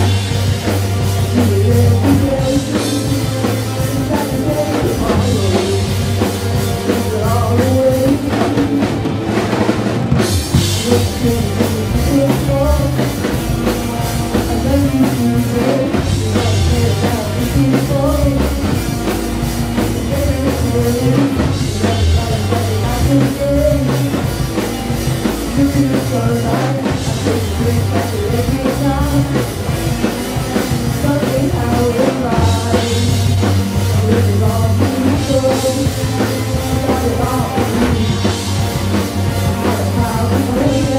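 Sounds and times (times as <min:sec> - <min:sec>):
person singing: 0:00.0 - 0:09.8, 0:10.4 - 0:40.9
rock music with drums and guitar: 0:00.0 - 0:40.9.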